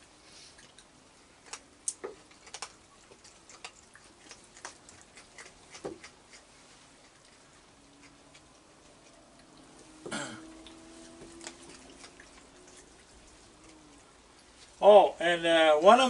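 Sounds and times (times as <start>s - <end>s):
raccoons crunching dry food: 0.5s - 15.1s.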